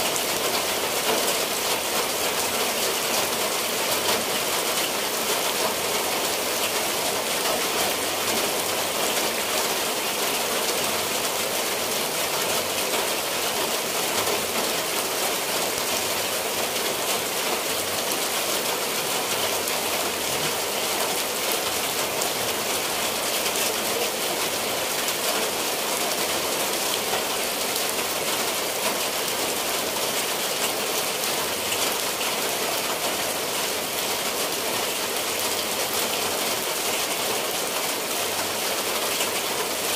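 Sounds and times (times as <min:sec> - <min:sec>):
rain on tiled roofs: 0:00.0 - 0:39.9
water dripping from eaves: 0:00.1 - 0:39.9.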